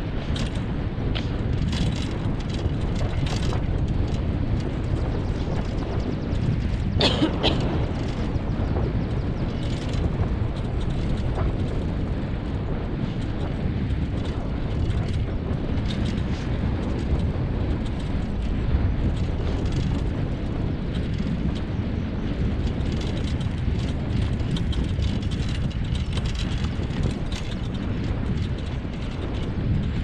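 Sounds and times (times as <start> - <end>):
wheeled rig rumbling over dirt: 0.0 - 30.0
wind on microphone: 0.0 - 30.0.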